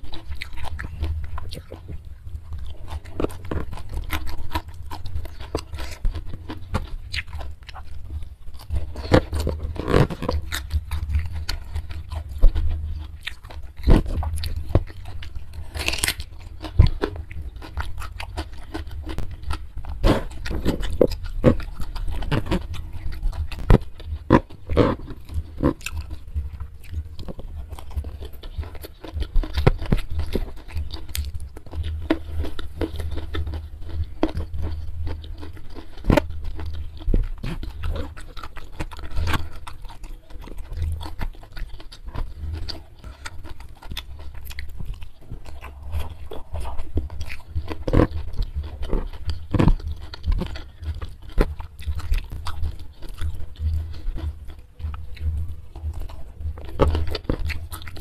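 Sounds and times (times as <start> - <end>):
close chewing and crunching: 0.0 - 58.0
low steady hum: 0.0 - 58.0.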